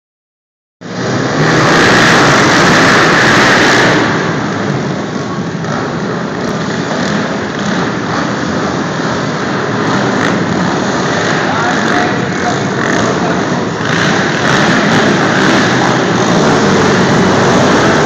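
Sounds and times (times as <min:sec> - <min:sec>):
quad bike engines revving: 0:00.8 - 0:18.0.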